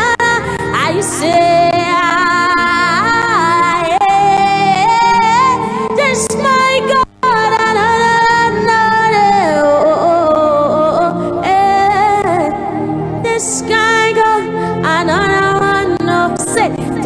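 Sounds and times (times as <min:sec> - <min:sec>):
voices singing held notes: 0:00.0 - 0:17.0.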